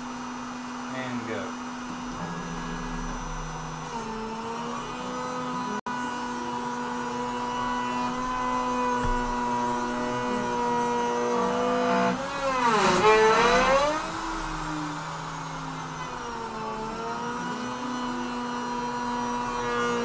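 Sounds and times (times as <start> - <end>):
router spindle whining cutting wood: 0.0 - 20.0.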